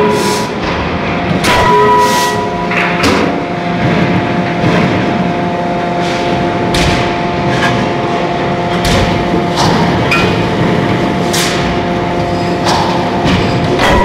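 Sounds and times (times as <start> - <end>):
forging hammer blows ringing: 0.0 - 14.0
machine hum: 0.0 - 14.0.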